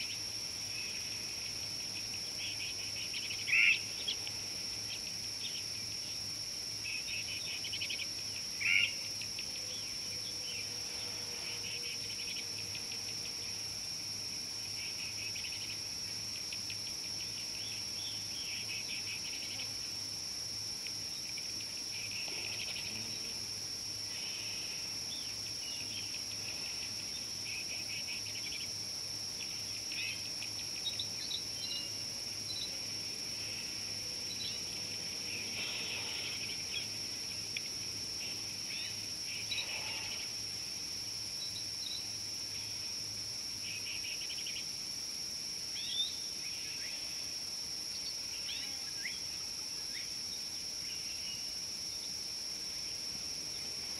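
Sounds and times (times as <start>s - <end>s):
crickets trilling: 0.0s - 53.9s
high-pitched insect drone: 0.0s - 53.9s.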